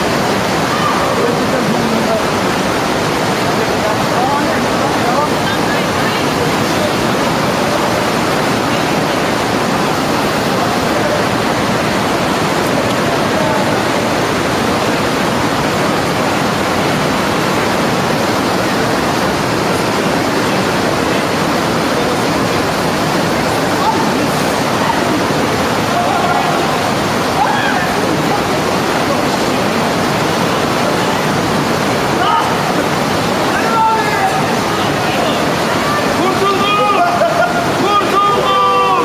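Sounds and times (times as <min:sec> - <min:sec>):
rushing water: 0:00.0 - 0:39.0.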